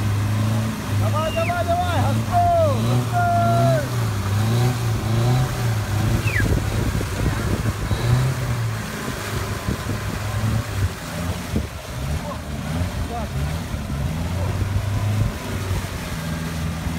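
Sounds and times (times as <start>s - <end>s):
engine running hard: 0.0s - 16.9s
wheels spinning in mud: 0.0s - 16.9s.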